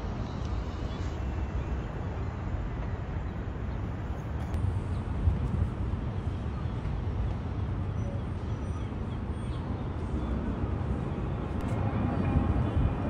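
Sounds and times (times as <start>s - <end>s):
city ambience low rumble: 0.0s - 13.0s.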